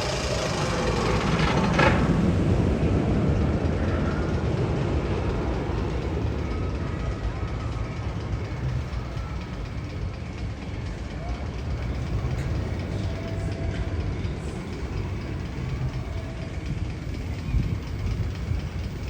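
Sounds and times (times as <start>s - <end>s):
roller coaster rumbling on track: 0.0s - 19.0s.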